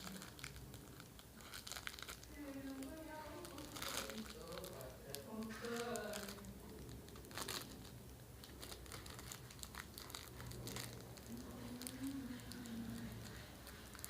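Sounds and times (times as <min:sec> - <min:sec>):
plastic wrappers crinkling: 0:00.0 - 0:14.0.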